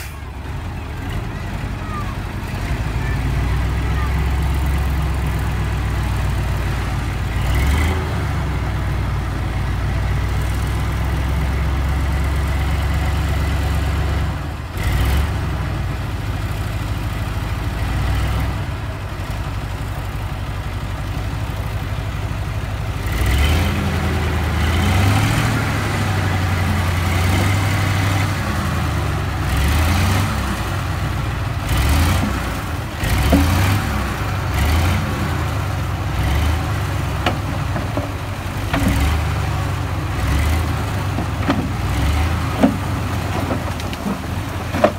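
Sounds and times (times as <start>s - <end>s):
diesel truck engine idling and revving: 0.0s - 44.9s.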